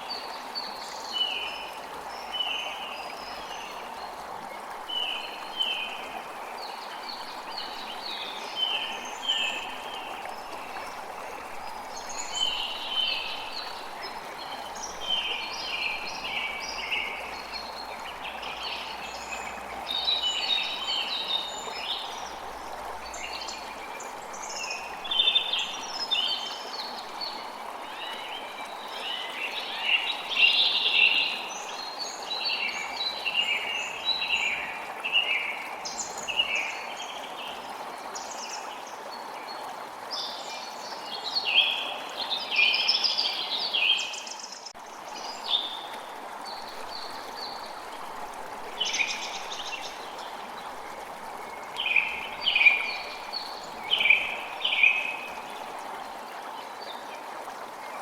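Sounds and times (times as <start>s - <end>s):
creek running: 0.0s - 58.0s.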